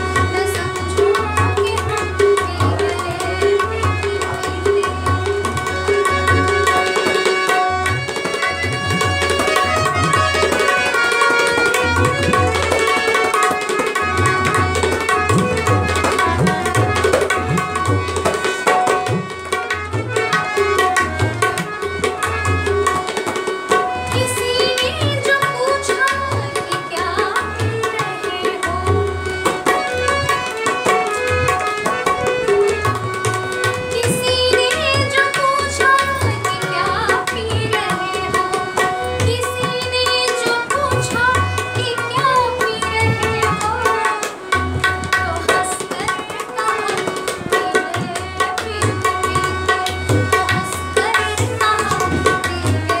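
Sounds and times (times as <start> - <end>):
woman singing: 0.0 - 31.4, 32.8 - 53.0
tabla rhythm: 0.0 - 53.0.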